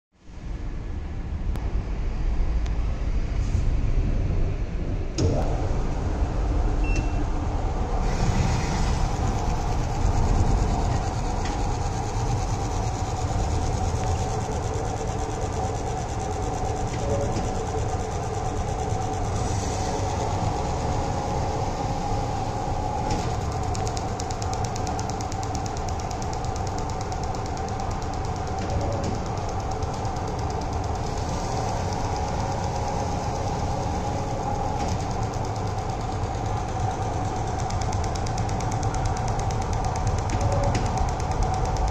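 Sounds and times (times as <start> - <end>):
slicer machine humming: 5.2 - 41.9.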